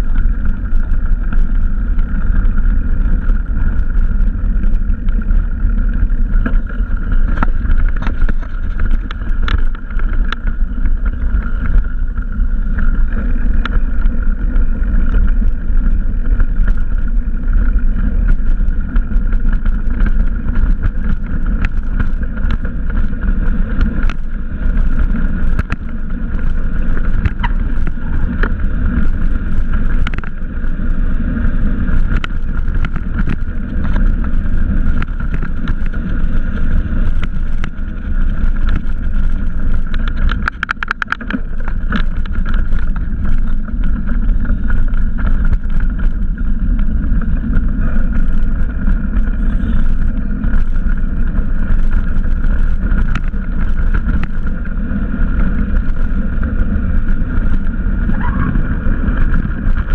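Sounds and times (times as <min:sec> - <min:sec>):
bicycle tyres rolling on dirt: 0:00.0 - 0:59.9
bike rattles and clicks: 0:00.0 - 0:59.9
wind rumbling on microphone: 0:00.0 - 0:59.9.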